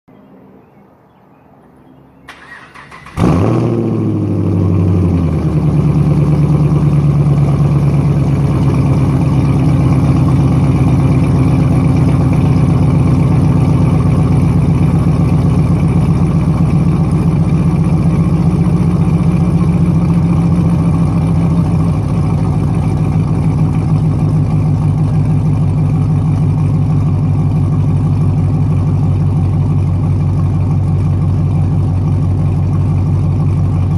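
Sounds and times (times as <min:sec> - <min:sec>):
car engine cranking and starting: 0:02.2 - 0:33.9
loud car engine idling: 0:02.3 - 0:33.9.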